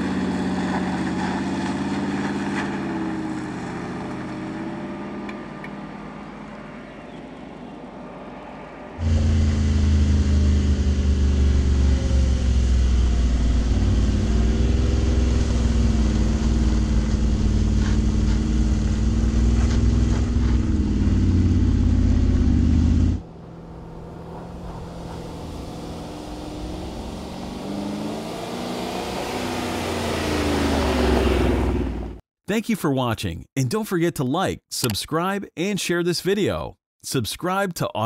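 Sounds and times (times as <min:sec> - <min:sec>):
distant vehicle engine approaching: 0:00.0 - 0:32.2
vehicle engine pulling under load: 0:00.0 - 0:32.2.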